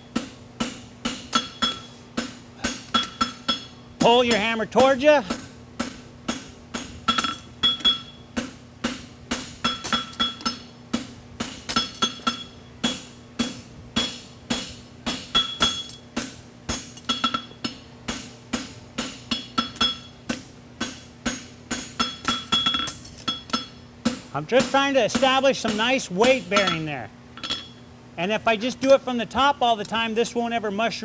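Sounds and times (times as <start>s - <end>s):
hammer striking metal on anvil: 0.1s - 27.8s.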